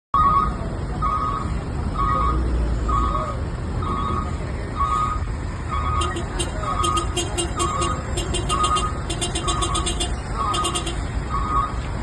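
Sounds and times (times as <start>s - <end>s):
vehicle engine rumbling: 0.2s - 12.0s.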